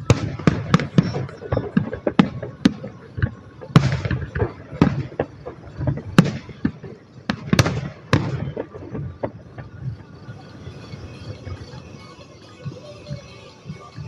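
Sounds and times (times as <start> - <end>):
fireworks bangs with crackling: 0.0 - 14.0.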